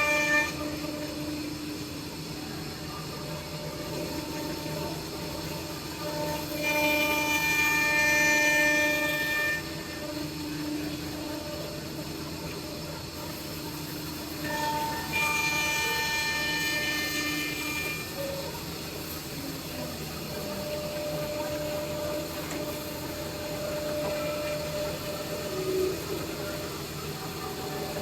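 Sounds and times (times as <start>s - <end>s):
machine hiss and hum: 0.0s - 28.0s
whining spindle: 0.0s - 28.0s.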